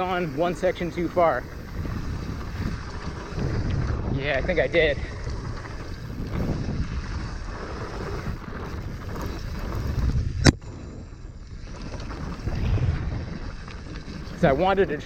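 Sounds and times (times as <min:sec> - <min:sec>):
bike rumbling on rough trail: 0:00.0 - 0:15.0
wind buffeting microphone: 0:00.0 - 0:15.0.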